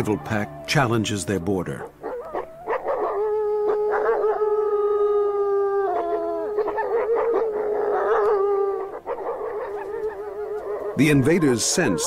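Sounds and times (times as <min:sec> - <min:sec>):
wolves howling: 0:00.0 - 0:12.0.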